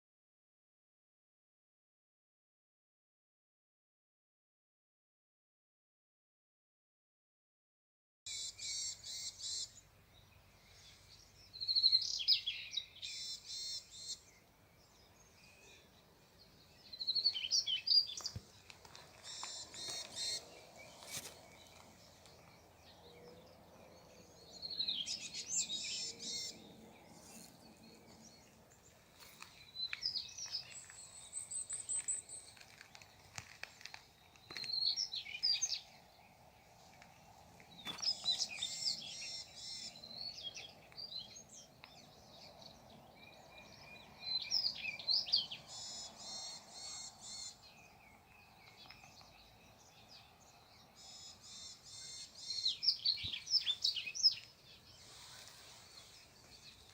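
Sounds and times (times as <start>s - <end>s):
songbirds chirping and trilling: 8.3s - 56.9s.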